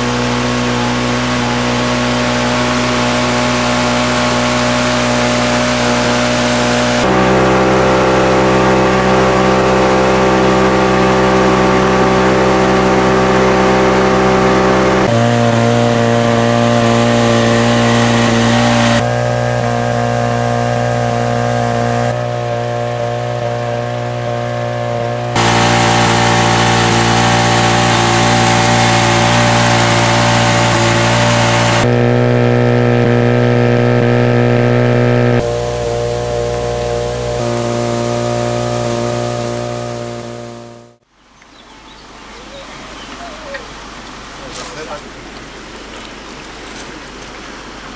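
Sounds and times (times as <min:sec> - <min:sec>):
pump engine running: 0:00.0 - 0:41.0.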